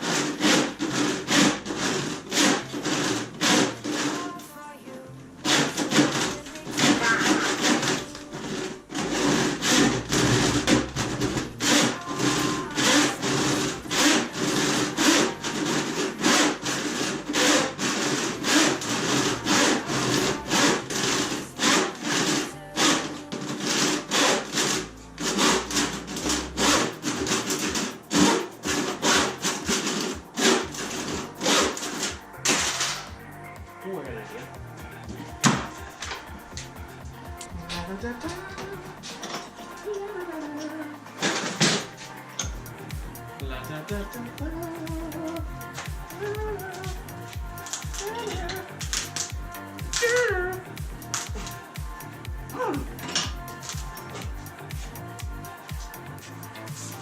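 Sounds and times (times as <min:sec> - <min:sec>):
saw rasping back and forth: 0:00.0 - 0:04.7, 0:05.3 - 0:57.0.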